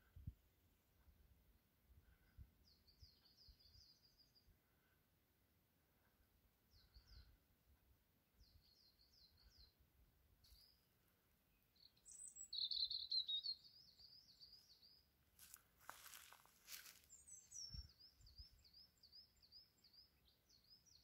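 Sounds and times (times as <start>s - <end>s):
songbird singing: 2.3s - 4.6s, 6.4s - 21.0s.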